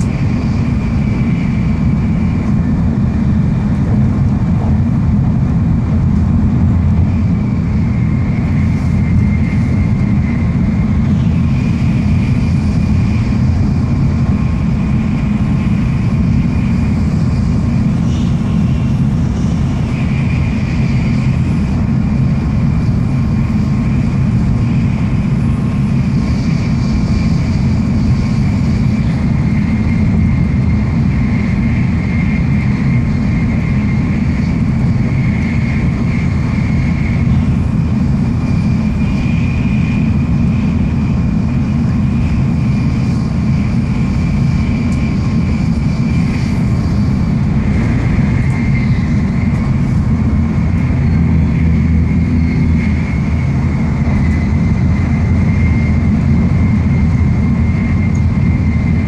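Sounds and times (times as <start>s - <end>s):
faint high whine: 0.0s - 59.0s
train rumbling: 0.0s - 59.0s.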